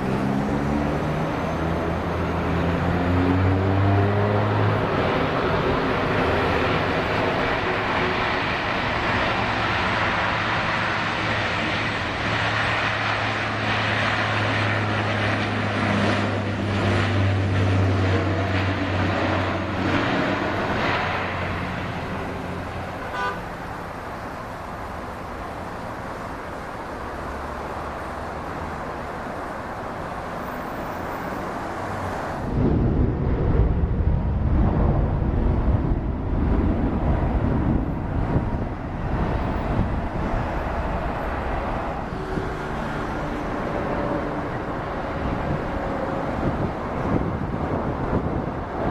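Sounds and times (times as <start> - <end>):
jet engines droning: 0.0 - 48.9.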